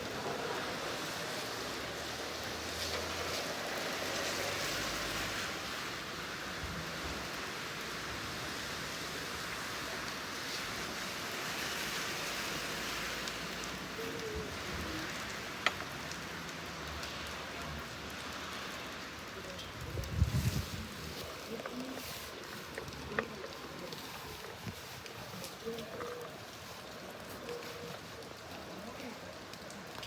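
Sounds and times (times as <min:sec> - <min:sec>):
louder raindrops: 0:00.0 - 0:30.0
steady rain falling: 0:00.0 - 0:30.0.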